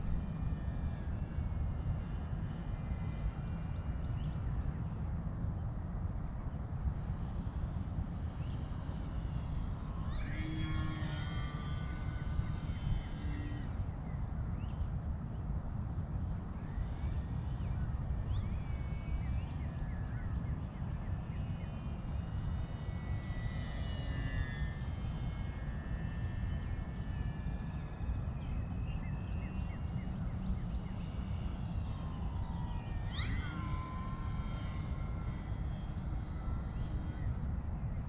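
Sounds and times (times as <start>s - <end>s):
model airplane motor whining: 0.0s - 38.0s.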